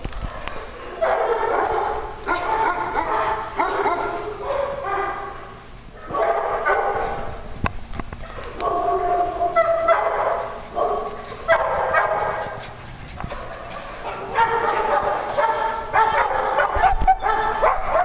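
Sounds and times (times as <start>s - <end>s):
dogs barking: 0.2s - 7.5s, 8.1s - 18.0s.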